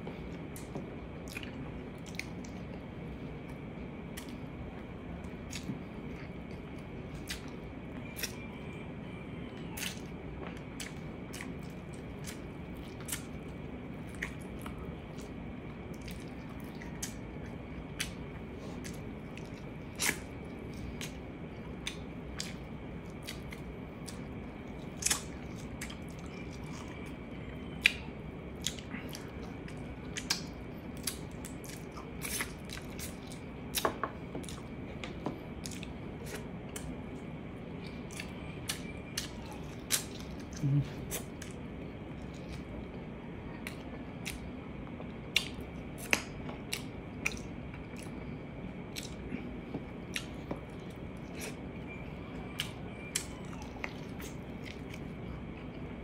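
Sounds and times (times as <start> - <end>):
faint high whine: 0.0 - 56.0
low hum: 0.0 - 56.0
wet chewing: 0.5 - 8.5, 9.5 - 36.9, 37.8 - 56.0.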